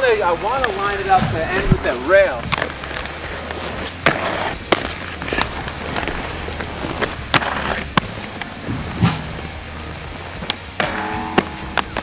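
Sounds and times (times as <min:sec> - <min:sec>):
inline skates rolling on concrete: 0:00.0 - 0:12.0
skates clacking on rail: 0:00.0 - 0:12.0.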